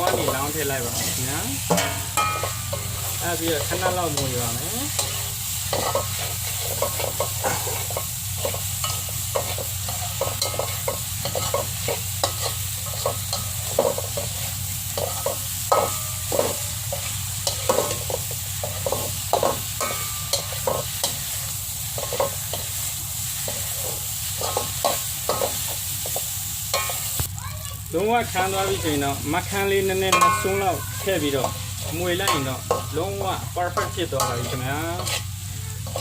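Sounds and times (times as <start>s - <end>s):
utensil scraping and clinking pan: 0.0s - 21.4s, 22.0s - 22.8s, 23.4s - 27.1s, 30.1s - 36.0s
food sizzling in a pan: 0.0s - 36.0s.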